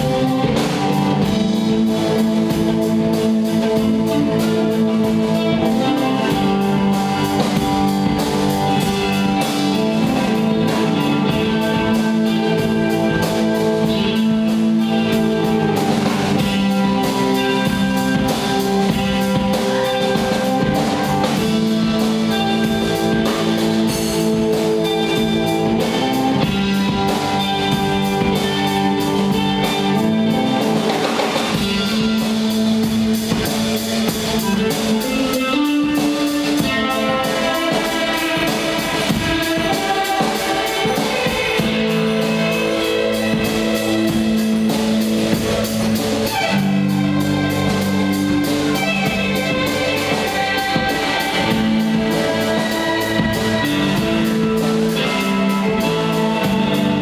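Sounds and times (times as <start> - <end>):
bowed violin: 0.0 - 57.0
drum kit beat: 0.0 - 57.0
electric guitar: 0.0 - 57.0.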